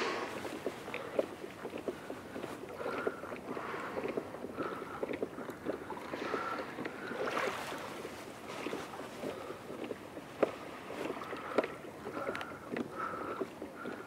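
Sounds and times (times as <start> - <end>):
water lapping against a hull: 0.0 - 14.0.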